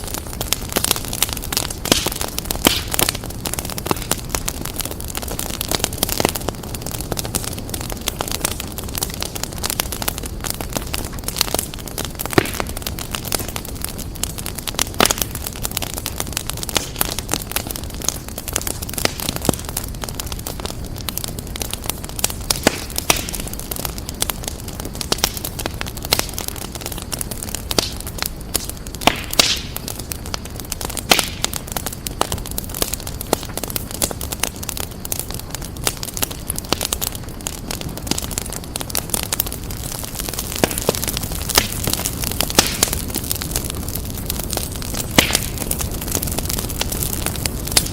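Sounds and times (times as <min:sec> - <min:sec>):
fire pops and snaps: 0:00.0 - 0:47.9
wood fire crackling: 0:00.0 - 0:47.9.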